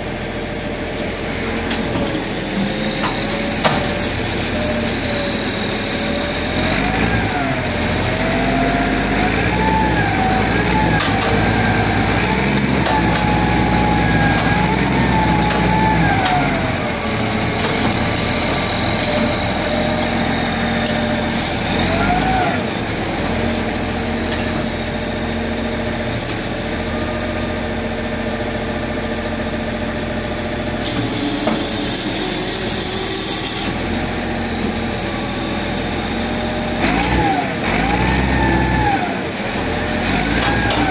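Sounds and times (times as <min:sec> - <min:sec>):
heavy machine engine revving: 0:00.0 - 0:40.9.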